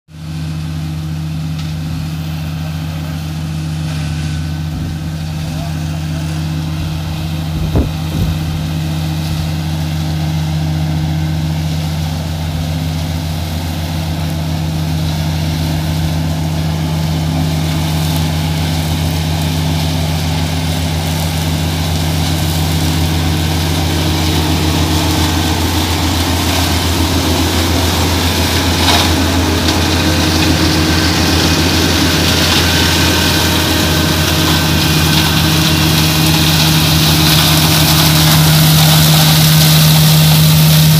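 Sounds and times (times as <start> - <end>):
flail mower shredding grass: 0.1 - 40.9
tractor diesel engine running: 0.1 - 40.9.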